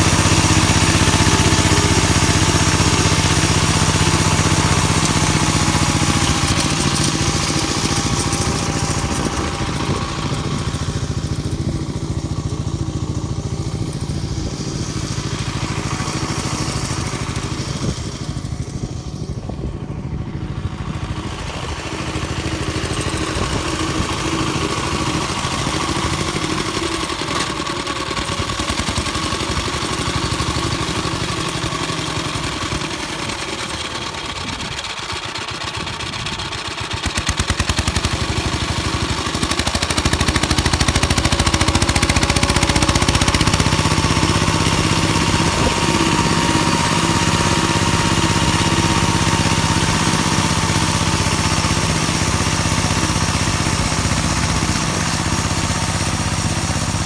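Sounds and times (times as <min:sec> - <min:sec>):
rotary tiller in soil: 0:00.0 - 0:57.0
small tractor engine running: 0:00.0 - 0:57.0.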